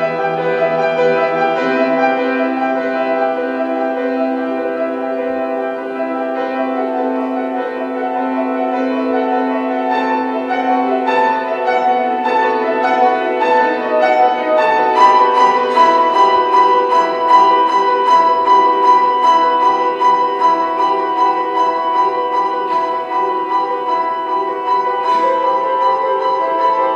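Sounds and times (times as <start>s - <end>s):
classical piano music: 0.0s - 26.9s.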